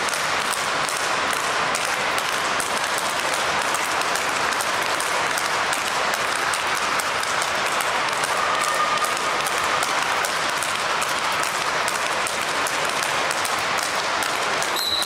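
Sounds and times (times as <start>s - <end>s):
applause-like rush of noise: 0.0s - 15.0s
rackets striking ball: 0.0s - 15.0s.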